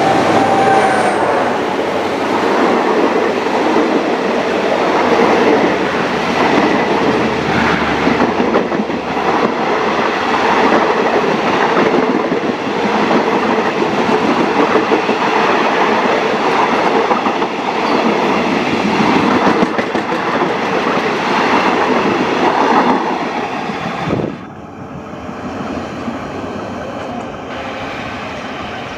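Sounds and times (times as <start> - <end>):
train rumbling: 0.0 - 28.9
train wheels on rails: 0.0 - 28.9.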